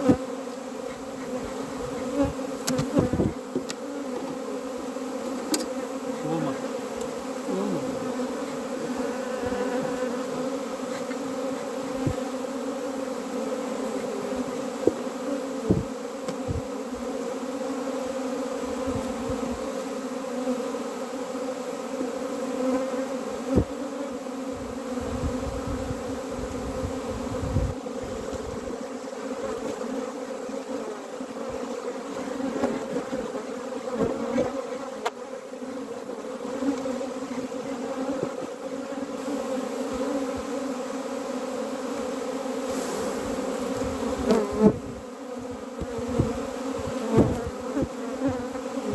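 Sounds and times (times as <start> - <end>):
honeybees buzzing: 0.0 - 48.9.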